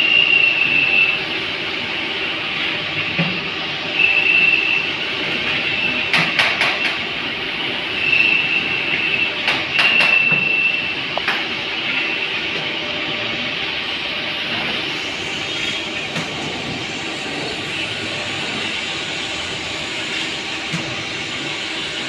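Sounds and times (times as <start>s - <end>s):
high machine whine: 0.0s - 22.0s
workshop machinery running: 0.0s - 22.0s.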